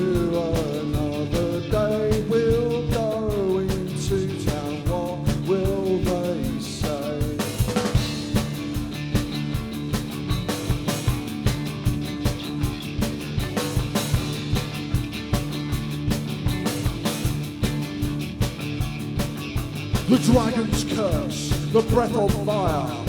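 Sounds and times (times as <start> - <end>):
drums beating: 0.0 - 23.0
guitars and bass chords: 0.0 - 23.0.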